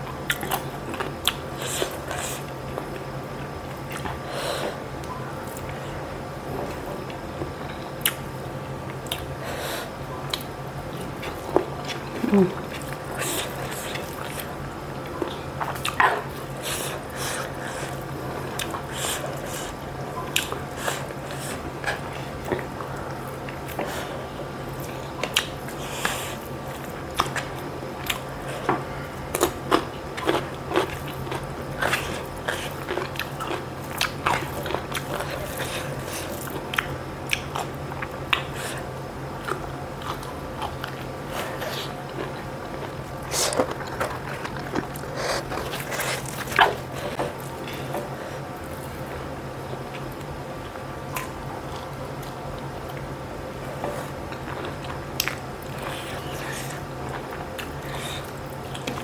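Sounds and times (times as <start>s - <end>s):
steady low hum: 0.0s - 59.0s
person chewing food: 0.3s - 4.2s, 6.6s - 9.4s, 10.3s - 59.0s.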